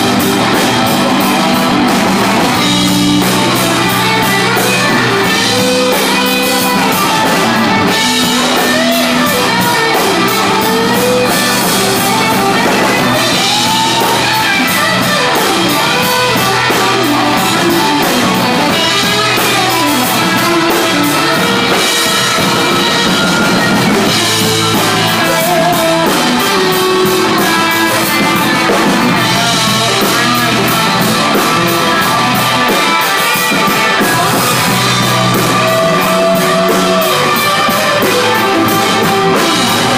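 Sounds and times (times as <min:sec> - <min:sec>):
drum kit with cymbals: 0:00.0 - 0:39.9
electric guitar bending notes: 0:00.0 - 0:39.9.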